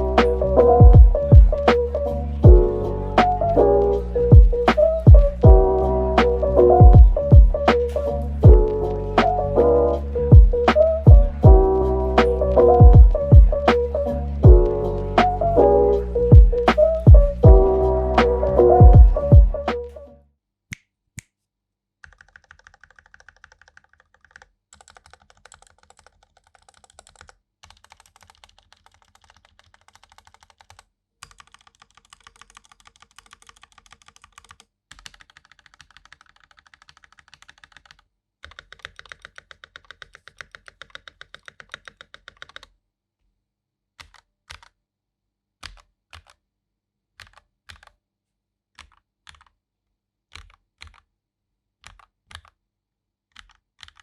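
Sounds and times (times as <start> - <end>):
mechanical keyboard typing: 0.2 - 19.8, 22.0 - 42.7, 44.0 - 44.8, 45.6 - 46.4, 47.2 - 48.0, 48.8 - 49.6, 50.3 - 51.1, 51.8 - 52.6, 53.3 - 54.0.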